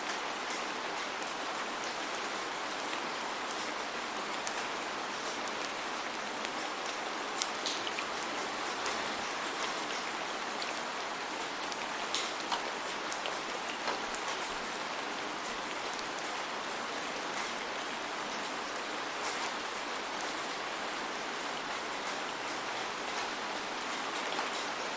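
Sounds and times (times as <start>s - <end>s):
raindrops hitting a surface: 0.0s - 24.9s
steady rain hiss: 0.0s - 24.9s.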